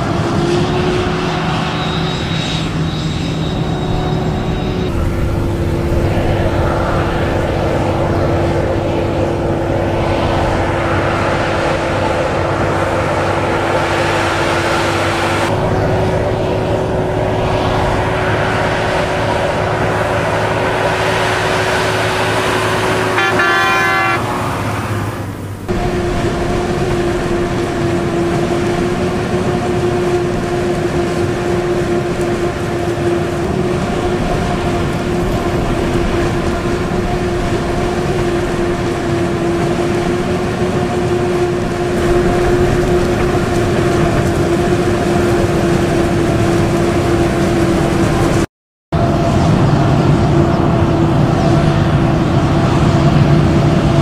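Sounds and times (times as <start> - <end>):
forage harvester whine: 0.0 - 54.0
heavy farm machinery running: 0.0 - 54.0.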